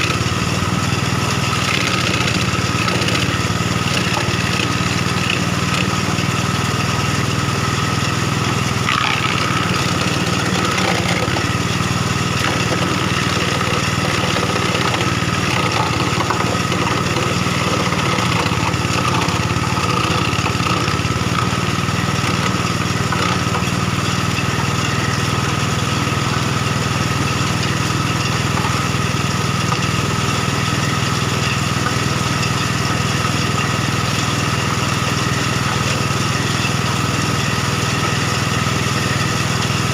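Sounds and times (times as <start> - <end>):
wood crusher engine droning: 0.0 - 39.9.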